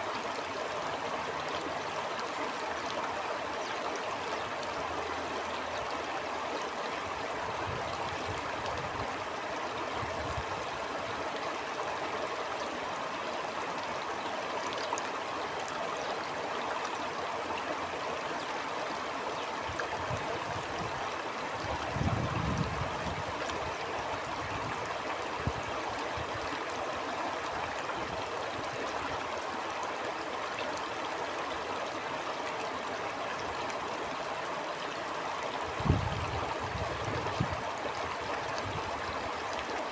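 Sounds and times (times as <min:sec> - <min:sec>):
stream water burbling: 0:00.0 - 0:39.9.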